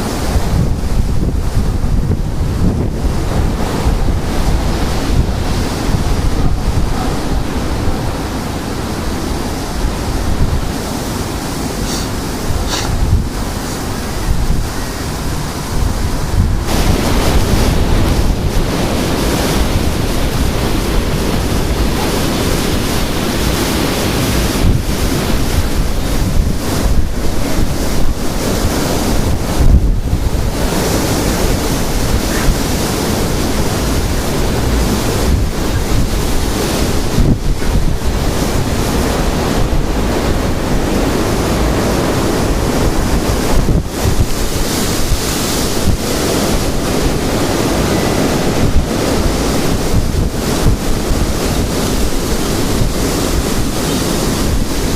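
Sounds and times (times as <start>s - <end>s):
gusting wind buffeting microphone: 0.0s - 54.9s.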